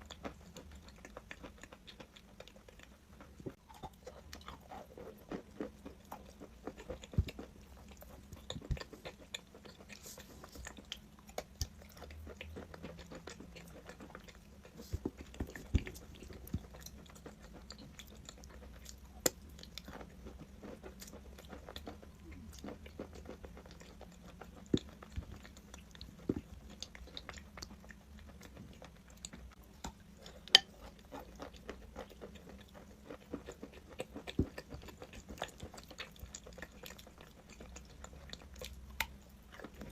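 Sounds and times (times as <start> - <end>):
person chewing crunchy chalk: 0.0 - 39.9.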